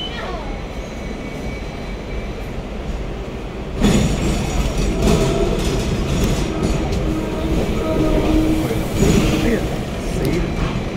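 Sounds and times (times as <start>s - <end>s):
tram rumbling: 0.0s - 10.9s
steel wheels on rail: 0.5s - 10.9s.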